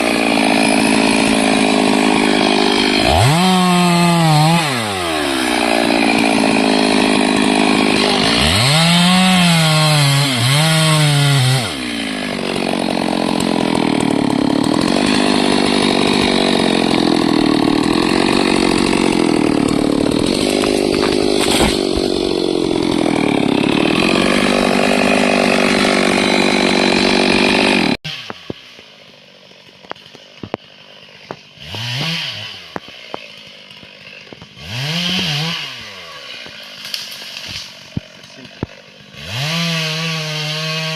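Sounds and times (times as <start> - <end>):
chainsaw cutting timber: 0.0 - 40.9
chainsaw revving: 0.0 - 40.9.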